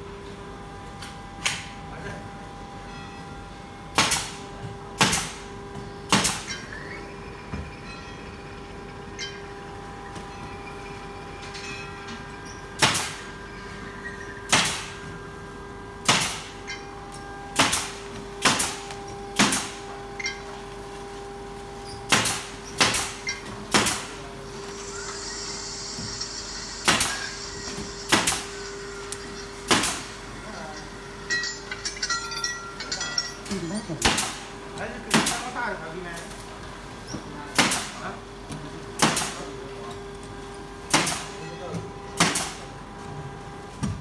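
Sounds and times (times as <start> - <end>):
steady electrical hum: 0.0 - 44.0.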